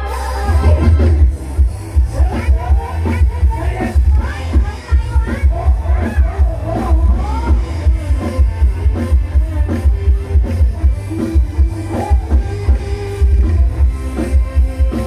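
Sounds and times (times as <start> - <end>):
live band music over loudspeaker: 0.0 - 15.0.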